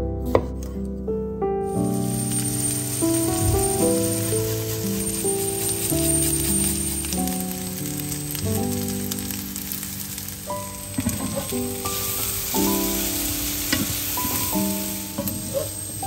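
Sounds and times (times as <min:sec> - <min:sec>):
background music with held notes: 0:00.0 - 0:16.0
vegetables sizzling in oil: 0:01.7 - 0:16.0
wooden spatula stirring and scraping: 0:02.0 - 0:10.3, 0:10.9 - 0:16.0.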